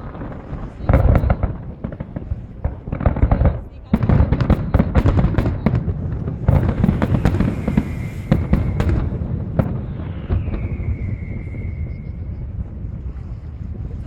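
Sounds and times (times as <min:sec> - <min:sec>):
fireworks bangs and crackling pops: 0:00.0 - 0:13.9.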